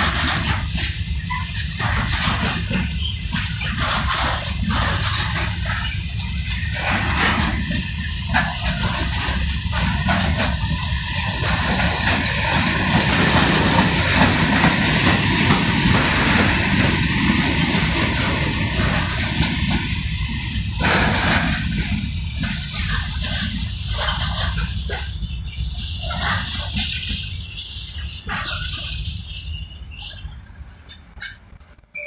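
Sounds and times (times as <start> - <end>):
steel wheels rumbling on rails: 0.0 - 32.0
wheels and couplings clicking: 0.0 - 32.0.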